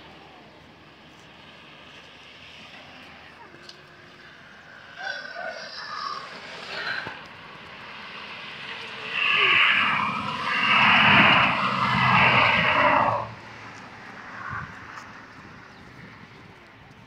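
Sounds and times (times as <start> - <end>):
deep lorry engine: 0.0 - 16.9
road traffic passing: 0.0 - 17.0.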